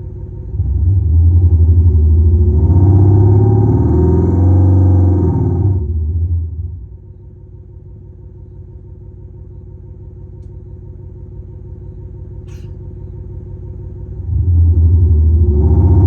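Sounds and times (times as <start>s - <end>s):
synthetic engine sound rumble: 0.0s - 16.0s.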